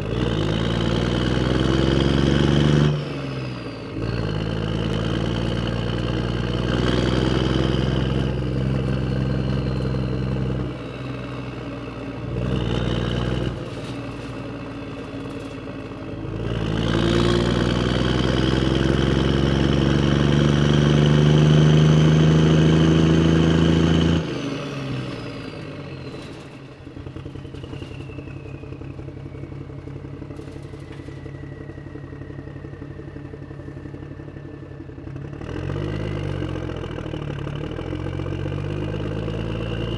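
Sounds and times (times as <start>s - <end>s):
engine putter: 0.0s - 39.9s.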